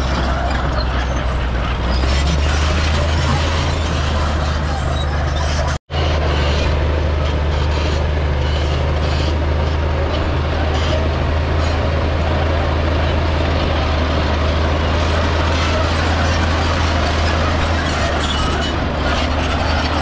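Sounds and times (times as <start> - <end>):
diesel engine low hum: 0.0 - 20.0.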